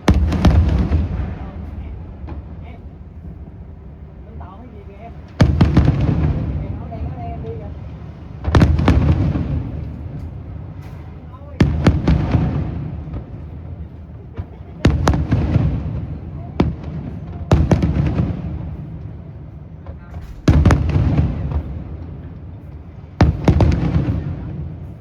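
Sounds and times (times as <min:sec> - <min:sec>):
long rumbling echo: 0:00.0 - 0:25.0.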